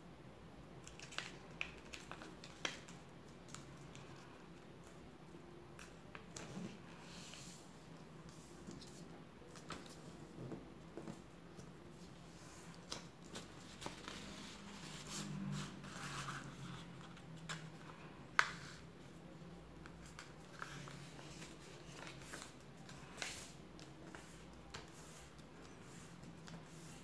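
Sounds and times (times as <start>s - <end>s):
paper rustling and folding: 0.8s - 5.0s, 5.8s - 27.0s.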